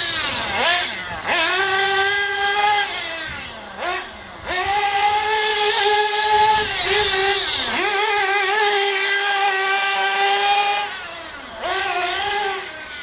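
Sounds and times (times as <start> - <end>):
small engine high-pitched whine: 0.0 - 13.0.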